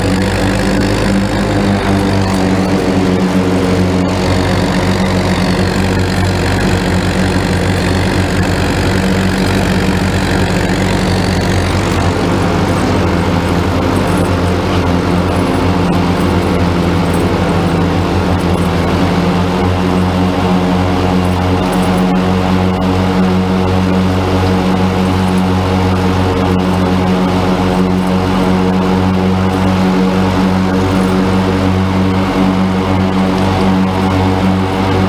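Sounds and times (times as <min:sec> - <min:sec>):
diesel tractor engine under load: 0:00.0 - 0:35.0
rotary mower running: 0:00.0 - 0:35.0.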